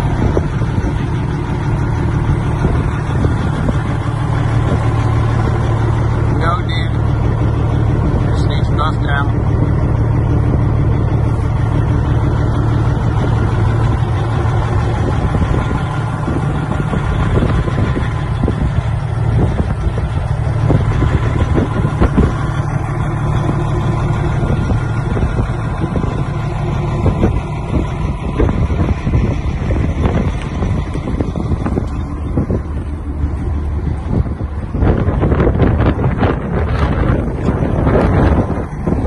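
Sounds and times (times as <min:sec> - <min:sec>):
diesel truck engine idling: 0:00.0 - 0:39.0
wind on microphone: 0:00.0 - 0:39.0.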